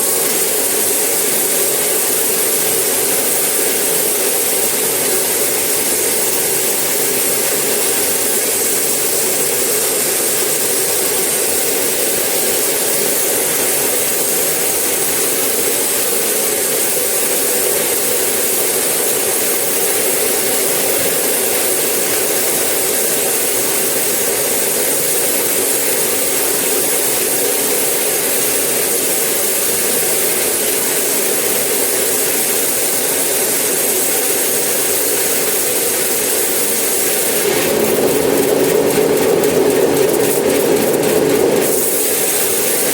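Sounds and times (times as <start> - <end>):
sawmill saw running: 0.0 - 42.9.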